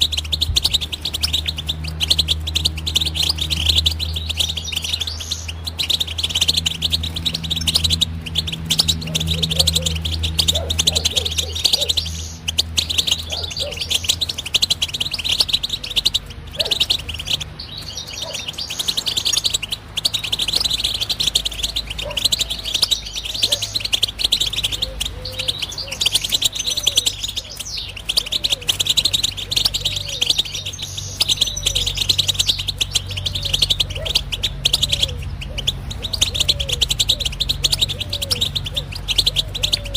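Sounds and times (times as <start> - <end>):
bird twittering song: 0.0 - 39.9
steady low hum: 0.0 - 39.9.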